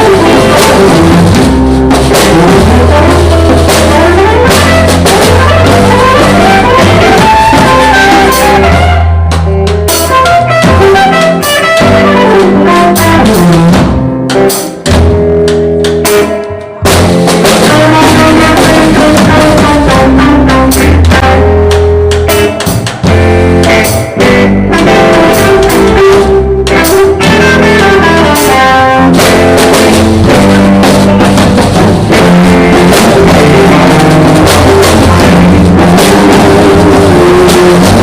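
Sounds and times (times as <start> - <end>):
bass guitar: 0.0 - 38.0
drum kit: 0.0 - 38.0
electric guitar: 0.0 - 38.0
live band jamming: 0.0 - 38.0.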